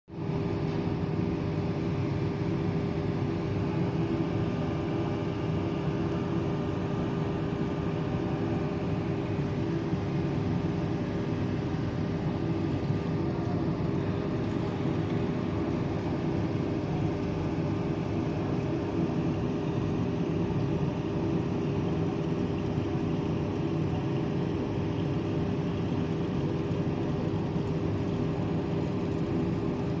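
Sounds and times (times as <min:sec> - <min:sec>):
steady mechanical hum: 0:00.1 - 0:30.0.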